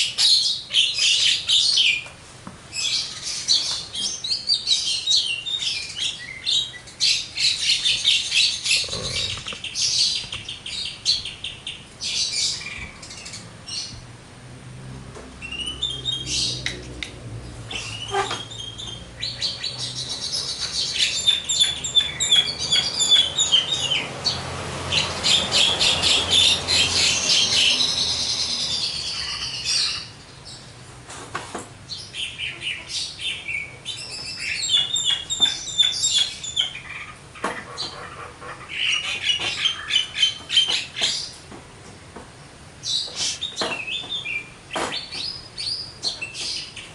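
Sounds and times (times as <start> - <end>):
myna bird singing: 0.0 - 2.1, 2.7 - 14.1, 15.4 - 30.8, 31.9 - 41.4, 42.8 - 46.9.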